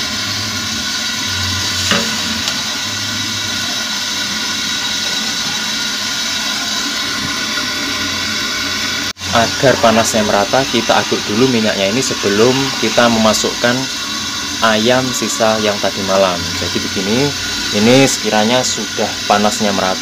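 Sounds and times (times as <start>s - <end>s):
gas burner hissing: 0.0s - 20.0s
metal skimmer stirring oil: 0.0s - 20.0s.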